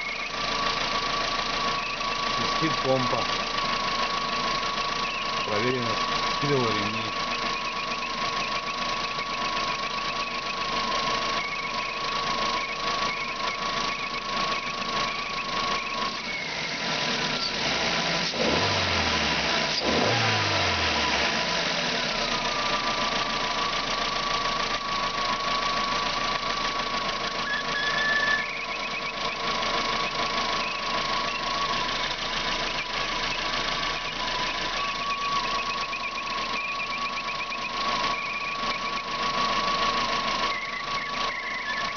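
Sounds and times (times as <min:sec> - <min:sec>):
car engine with high whistle: 0:00.0 - 0:41.9
engine revving: 0:00.0 - 0:41.9.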